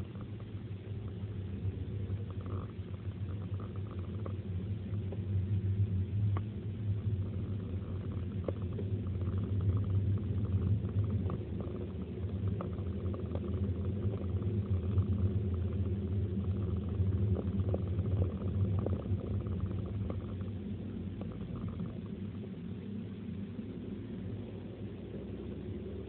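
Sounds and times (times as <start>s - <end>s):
car engine and tyres droning: 0.0s - 26.0s
light ticks and rattles: 0.0s - 26.0s.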